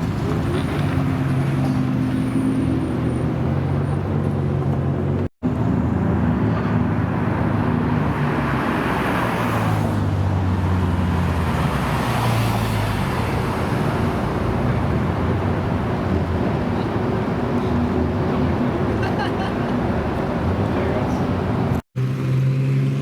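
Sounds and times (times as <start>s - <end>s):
cars driving past: 0.0s - 23.0s
car engine hum: 3.3s - 22.6s.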